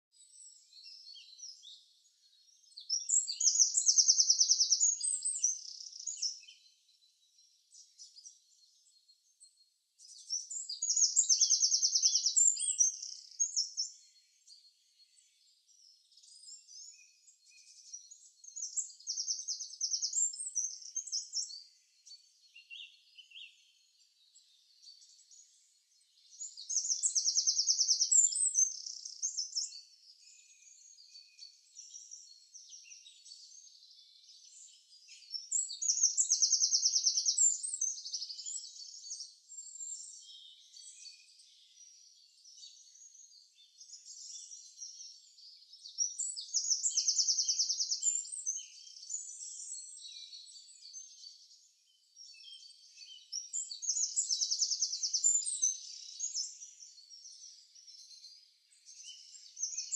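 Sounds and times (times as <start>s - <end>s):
faint bird chirps: 0.0s - 59.9s
songbird trilling song: 0.0s - 59.9s.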